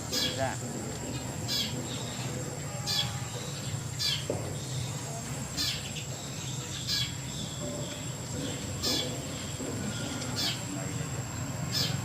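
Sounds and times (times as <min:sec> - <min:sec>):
birds chirping in trills: 0:00.0 - 0:12.0.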